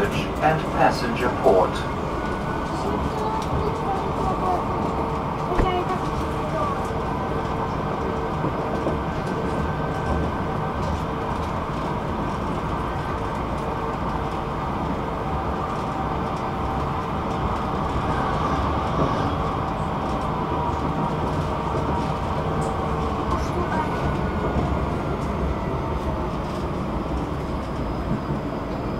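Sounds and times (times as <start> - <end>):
tram wheels rumbling on rails: 0.0 - 28.9.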